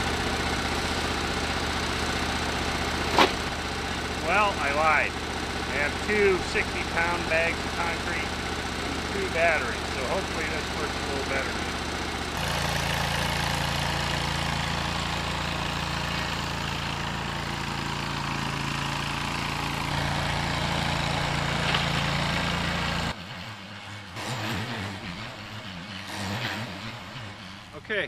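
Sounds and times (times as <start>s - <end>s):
riding mower engine running: 0.0s - 28.0s.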